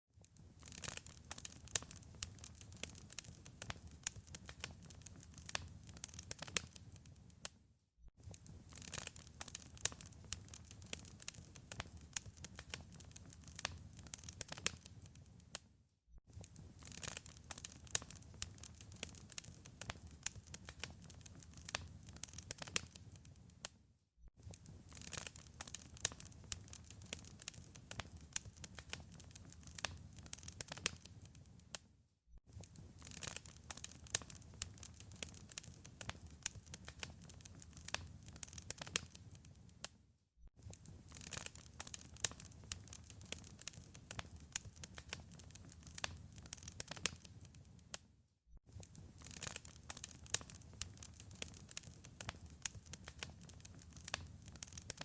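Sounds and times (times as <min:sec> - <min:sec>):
wood fire crackling: 0:00.2 - 0:07.5, 0:08.2 - 0:15.6, 0:16.3 - 0:23.7, 0:24.4 - 0:31.8, 0:32.5 - 0:39.9, 0:40.6 - 0:48.0, 0:48.7 - 0:55.0.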